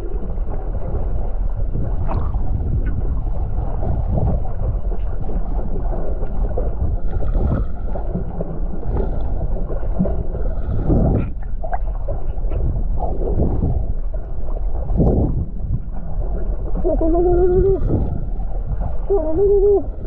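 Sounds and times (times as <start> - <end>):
underwater rumble and water movement: 0.0 - 20.0.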